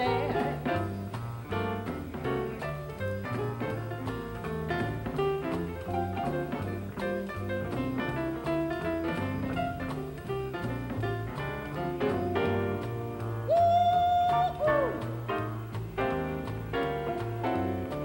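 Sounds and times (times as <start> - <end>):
jazz piano: 0.0 - 18.0
walking double bass: 0.0 - 18.0.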